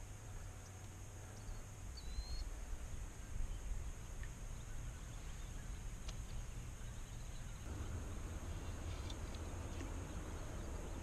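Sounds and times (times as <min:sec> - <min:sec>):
low rumble and faint hiss: 0:00.0 - 0:11.0.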